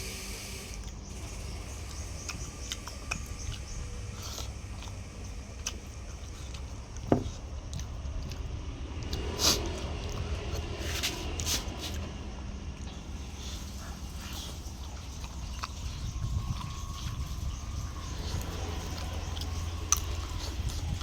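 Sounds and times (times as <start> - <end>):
person chewing and biting food: 0.8 - 12.1, 12.8 - 21.0
steady low rumble: 1.0 - 21.0.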